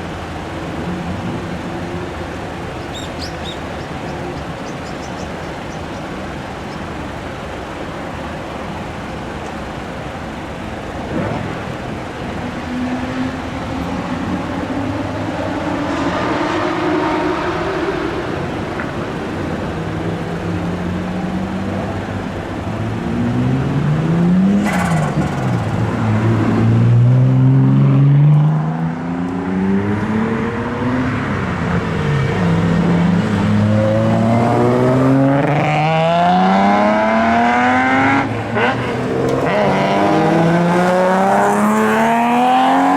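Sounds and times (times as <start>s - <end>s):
car engines revving: 0.0s - 42.9s.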